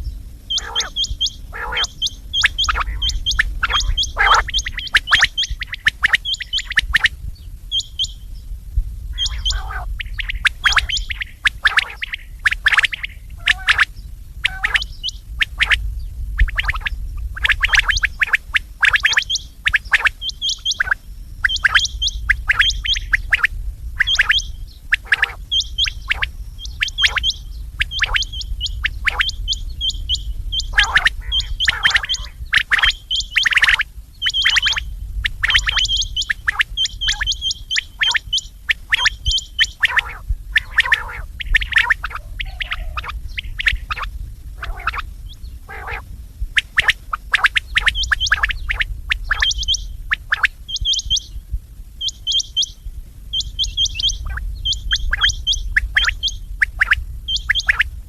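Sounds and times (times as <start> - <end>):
low hum: 0.0 - 58.0
quail calling: 0.5 - 7.1, 9.1 - 51.3, 52.0 - 52.8, 53.4 - 57.9.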